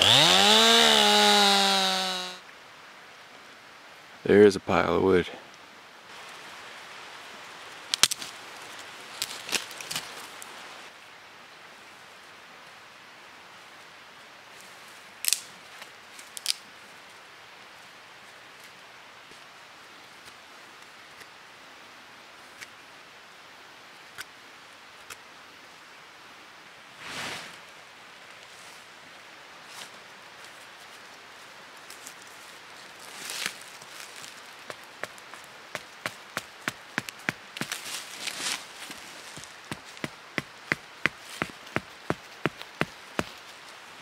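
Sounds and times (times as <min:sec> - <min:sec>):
faint hiss: 0:02.3 - 0:44.0.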